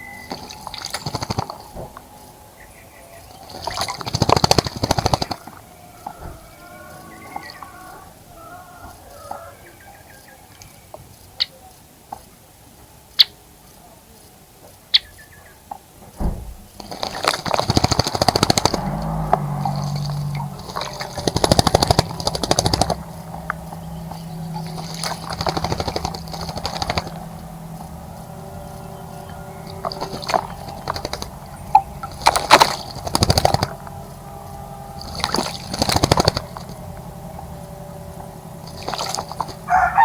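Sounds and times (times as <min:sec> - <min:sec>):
low engine-like hum: 0:00.0 - 0:11.0, 0:16.2 - 0:40.0
bird calls: 0:00.0 - 0:11.9, 0:14.9 - 0:40.0
bird splashing in water: 0:00.1 - 0:02.0, 0:03.0 - 0:09.6, 0:16.2 - 0:40.0.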